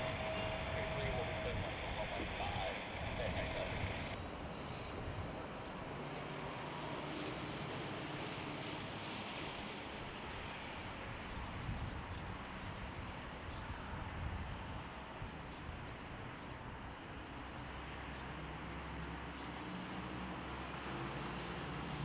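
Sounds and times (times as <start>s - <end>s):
jet engines idling with whine: 0.0s - 20.6s.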